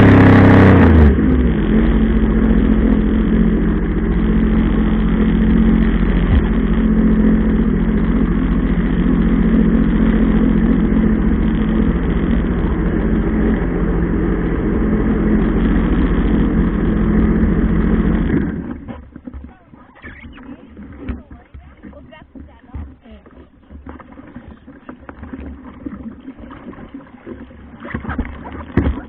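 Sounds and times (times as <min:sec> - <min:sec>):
jet ski engine running: 0:00.0 - 0:29.0.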